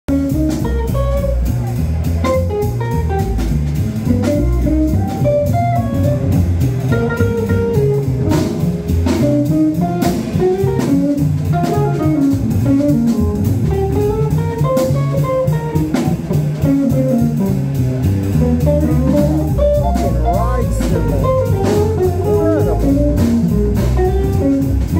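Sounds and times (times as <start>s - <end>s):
drum kit with cymbal hits: 0.1s - 24.9s
electric guitar melody: 0.1s - 24.9s
upright double bass: 0.1s - 24.9s.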